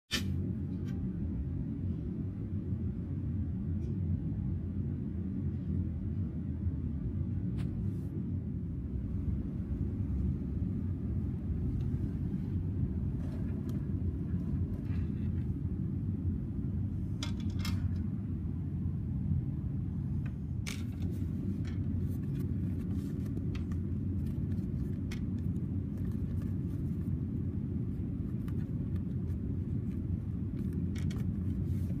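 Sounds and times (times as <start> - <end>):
low rumble: 0.5 - 32.0.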